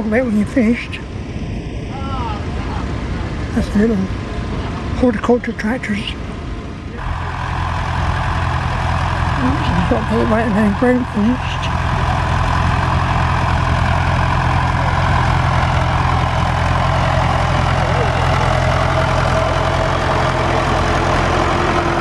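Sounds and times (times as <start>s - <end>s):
tractor diesel engine under load: 2.4s - 22.0s.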